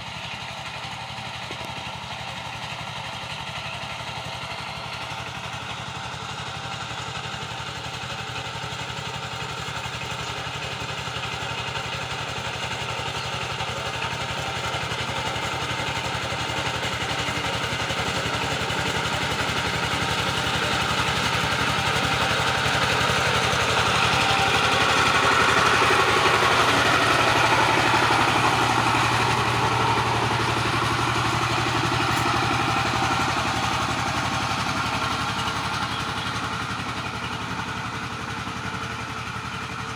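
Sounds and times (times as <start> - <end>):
power tiller engine running: 0.0 - 39.9.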